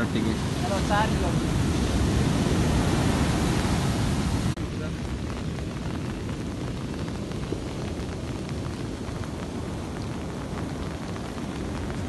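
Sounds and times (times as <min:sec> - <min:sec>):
steady rain falling: 0:00.0 - 0:12.0
wind and surf rumble: 0:00.0 - 0:12.0.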